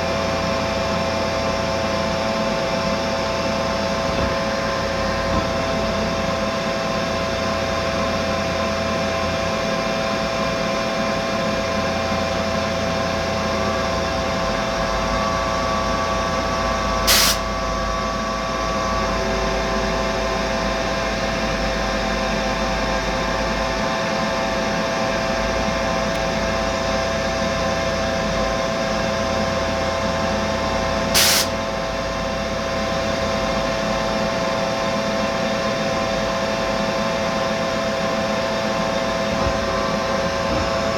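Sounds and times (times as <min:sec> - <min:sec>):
machine running hum: 0:00.0 - 0:40.9
machine whine with held tones: 0:00.0 - 0:40.9.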